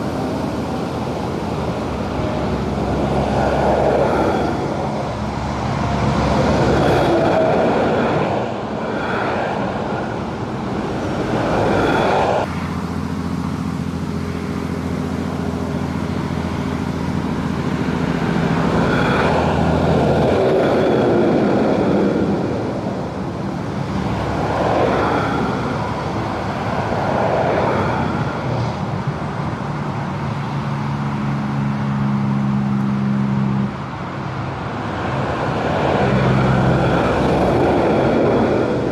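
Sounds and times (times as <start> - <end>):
low diesel engine drone: 0.0 - 38.9
vehicles passing over bridge: 0.0 - 38.9.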